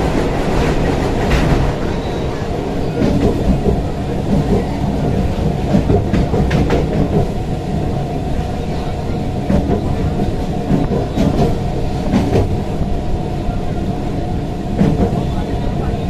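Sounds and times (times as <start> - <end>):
train rumble inside carriage: 0.0 - 16.0
wheels clacking on rails: 0.0 - 16.0.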